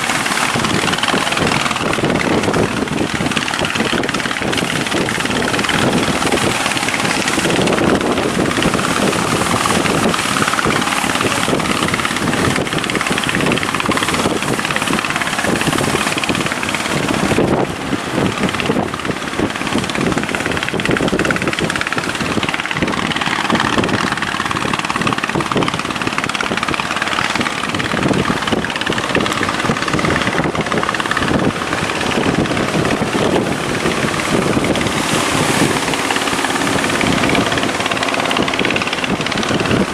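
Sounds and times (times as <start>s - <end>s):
boat engines running hard: 0.0s - 39.9s.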